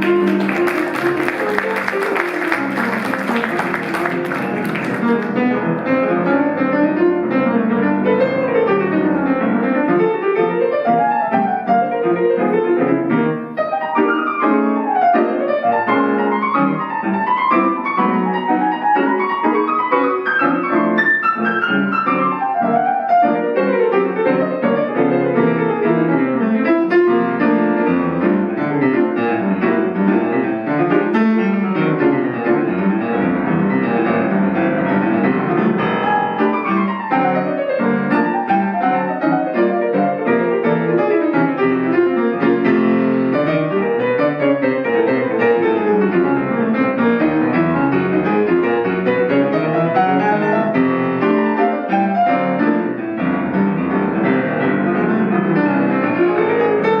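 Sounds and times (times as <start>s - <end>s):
jazz piano playing: 0.0s - 57.0s.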